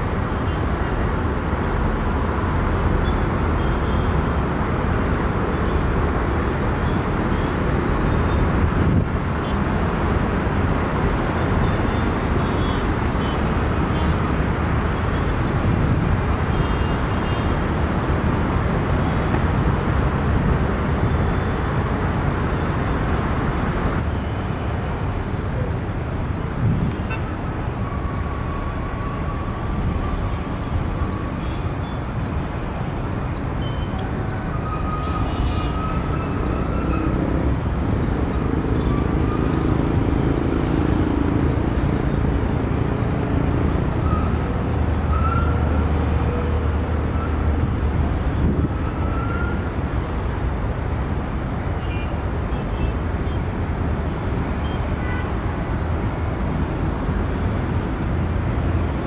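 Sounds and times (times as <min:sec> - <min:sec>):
engine and traffic rumble: 0:00.0 - 0:59.0.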